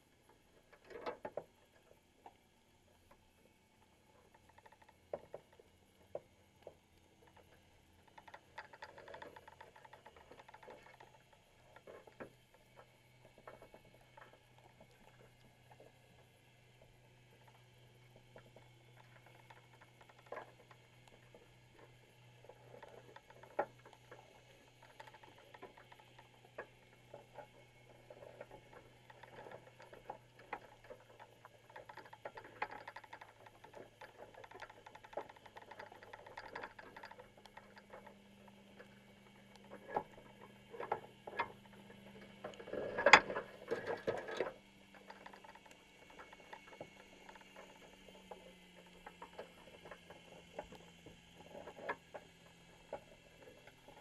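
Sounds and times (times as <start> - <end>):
low steady underwater hum: 0.0 - 54.0.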